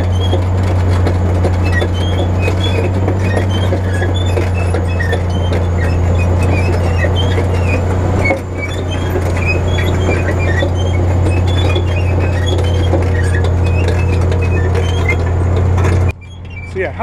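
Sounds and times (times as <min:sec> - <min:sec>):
diesel engine droning under load: 0:00.0 - 0:17.0
soil crunching: 0:00.0 - 0:17.0
steel tracks squeaking and clicking: 0:00.0 - 0:17.0.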